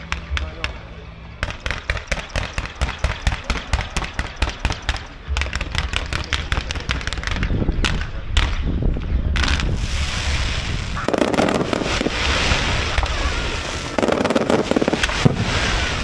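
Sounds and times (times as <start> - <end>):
firecrackers banging: 0.0 - 8.7, 9.4 - 16.0.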